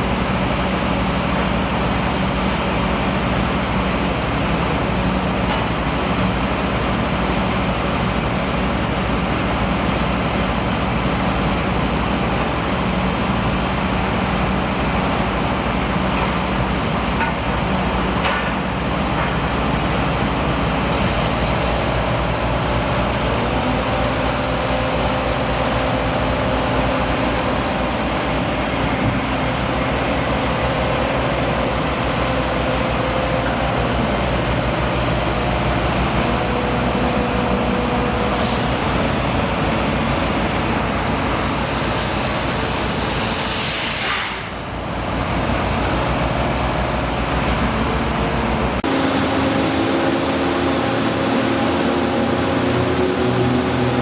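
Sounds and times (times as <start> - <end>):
engine and traffic noise: 0.0 - 54.0.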